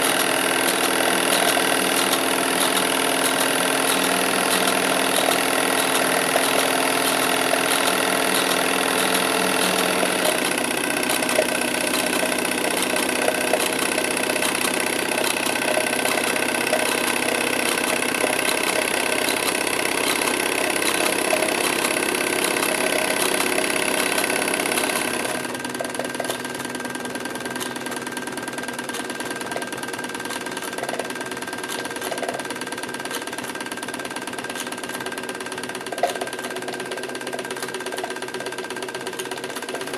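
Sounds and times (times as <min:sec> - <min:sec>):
toy steam engine running: 0:00.0 - 0:39.9.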